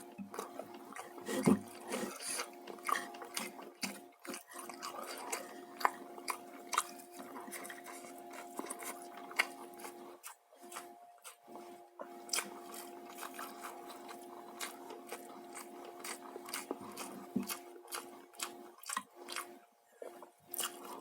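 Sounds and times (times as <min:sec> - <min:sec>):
person chewing crunchy food: 0:00.0 - 0:21.0.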